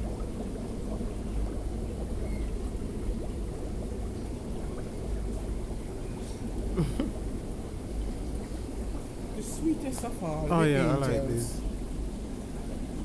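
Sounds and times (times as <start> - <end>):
aquarium water burbling: 0.0 - 13.0.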